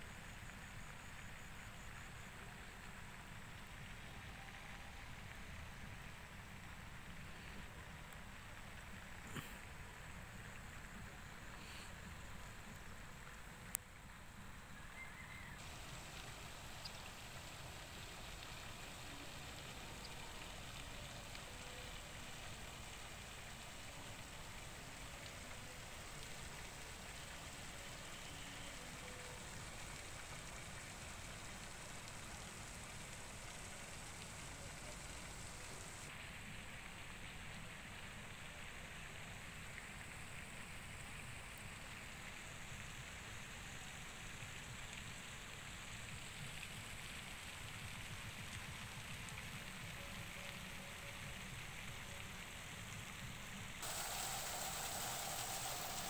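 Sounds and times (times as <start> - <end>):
faint outdoor hiss: 0.0 - 56.0.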